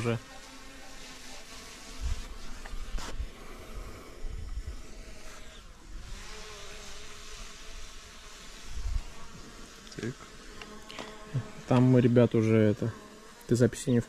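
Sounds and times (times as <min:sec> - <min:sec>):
quadcopter drone buzzing: 0:00.0 - 0:11.8.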